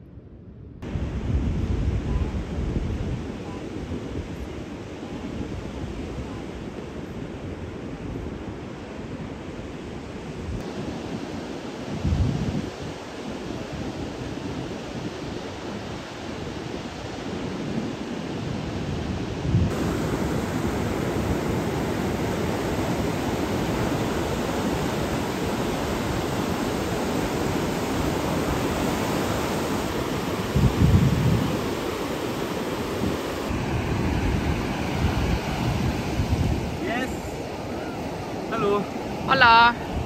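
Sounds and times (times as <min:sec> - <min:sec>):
ocean surf: 0:00.8 - 0:40.0
wind buffeting microphone: 0:00.8 - 0:40.0.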